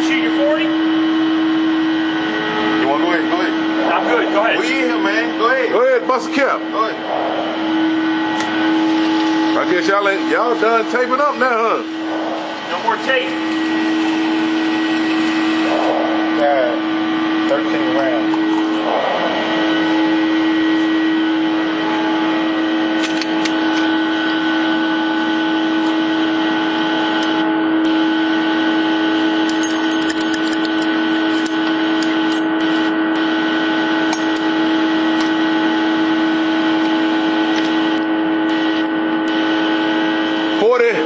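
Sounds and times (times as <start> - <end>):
loud machine hum: 0.0 - 41.0.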